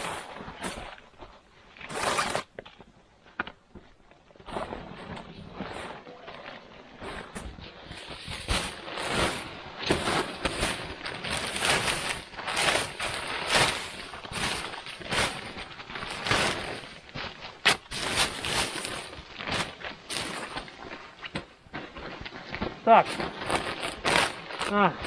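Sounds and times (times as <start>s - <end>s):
snow crunching and scraping: 0.0s - 25.0s.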